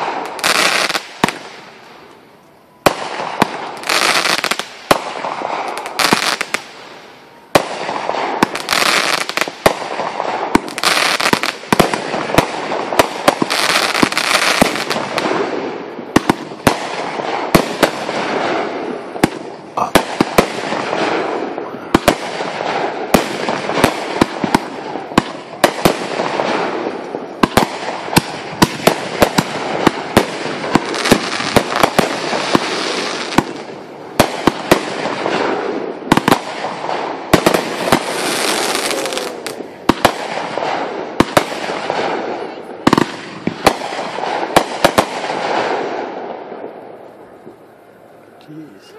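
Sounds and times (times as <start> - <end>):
fireworks bangs and pops: 0.0 - 47.6
fireworks crackling hiss: 0.0 - 48.9.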